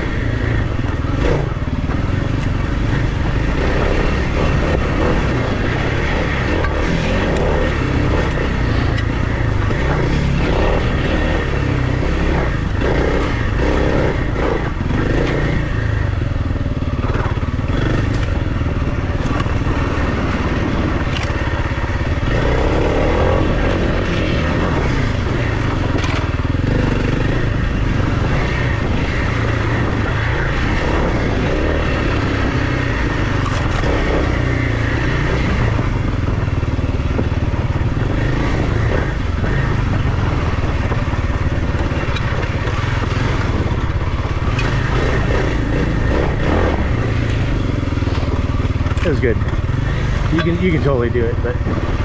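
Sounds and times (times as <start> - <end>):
dirt bike engine running: 0.0 - 52.0
gravel crunching under tyres: 0.0 - 52.0.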